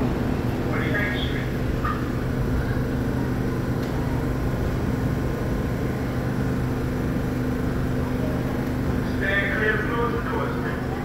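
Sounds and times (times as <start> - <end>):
subway car equipment humming: 0.0 - 11.0.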